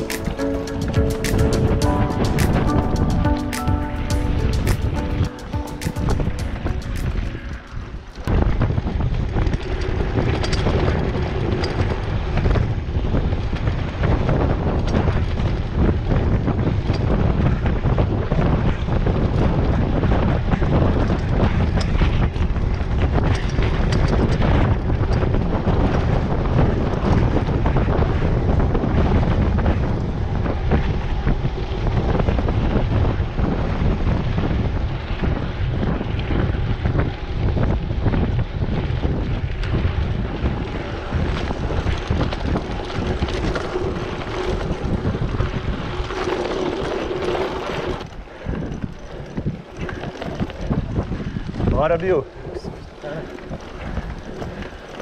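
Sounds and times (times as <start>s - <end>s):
wind buffeting microphone: 0.0s - 55.0s
bike tyres rumbling on dirt: 4.2s - 55.0s.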